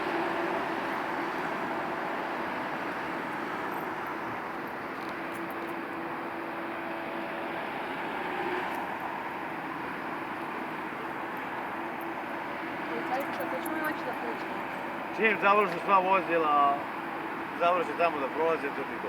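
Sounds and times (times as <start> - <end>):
cars driving by: 0.0 - 19.0.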